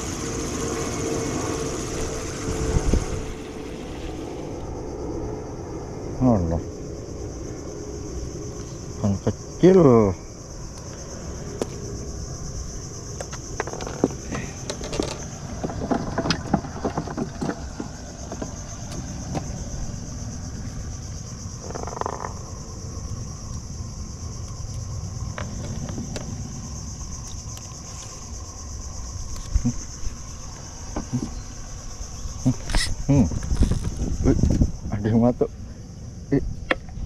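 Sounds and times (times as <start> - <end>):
high-pitched insect buzz: 0.0 - 37.0
low rumble of wind and water: 0.0 - 37.0.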